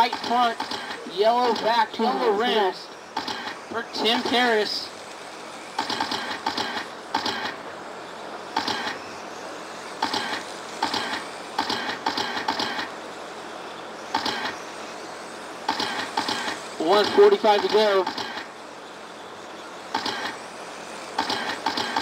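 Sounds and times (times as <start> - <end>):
rc truck motors whining past: 0.0 - 22.0.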